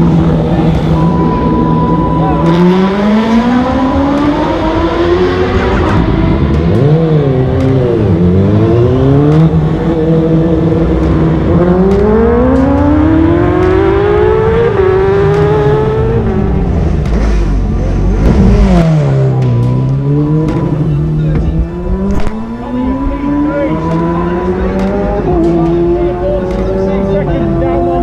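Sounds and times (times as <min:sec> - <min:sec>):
racing motorcycle engines revving: 0:00.0 - 0:28.0.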